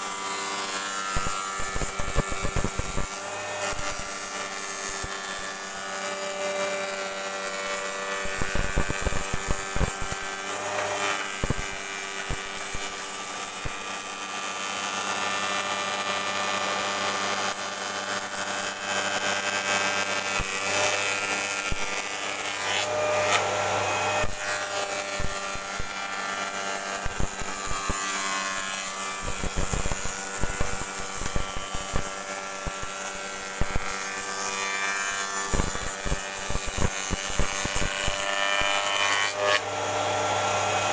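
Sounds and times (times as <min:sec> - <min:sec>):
cutter shaping wood: 0:00.0 - 0:40.9.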